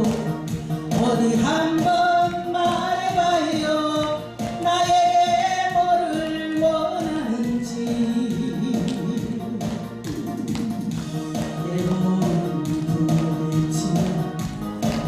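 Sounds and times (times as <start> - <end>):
trot song over backing track: 0.0 - 15.0.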